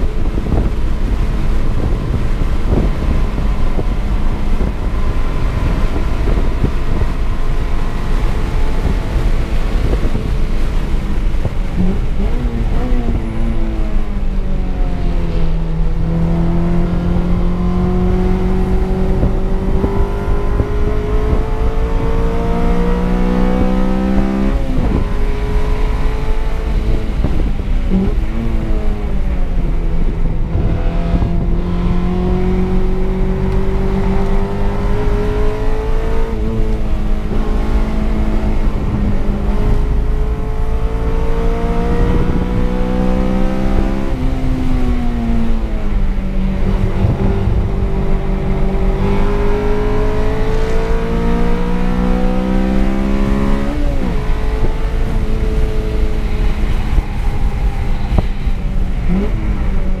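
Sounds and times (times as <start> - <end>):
car engine under full throttle: 0.0 - 60.0
tyre and wind noise: 0.0 - 60.0.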